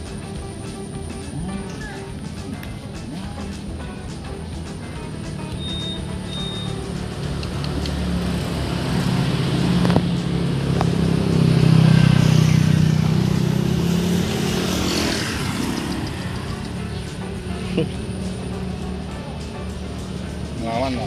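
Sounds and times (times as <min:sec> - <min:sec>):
vehicle engine passing by: 0:00.0 - 0:21.0.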